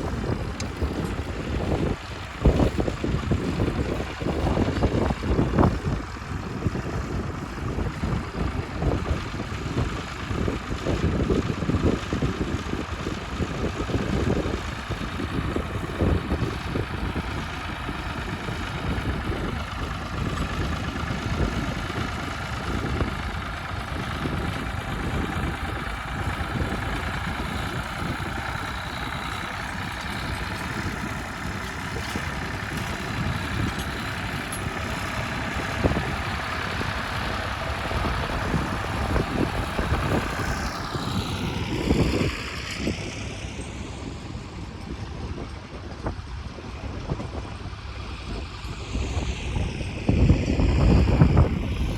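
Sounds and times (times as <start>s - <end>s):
heavy vehicle engine rumbling: 0.0s - 51.9s.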